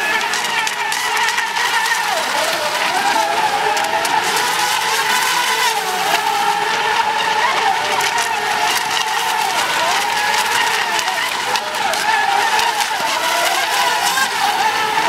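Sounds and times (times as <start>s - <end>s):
model boat motors whining: 0.0s - 15.0s.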